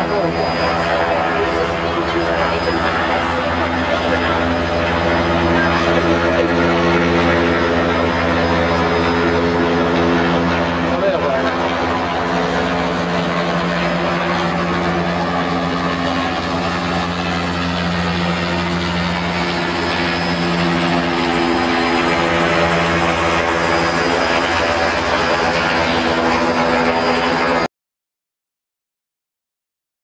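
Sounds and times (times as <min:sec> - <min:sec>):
helicopter hovering overhead: 0:00.0 - 0:27.7.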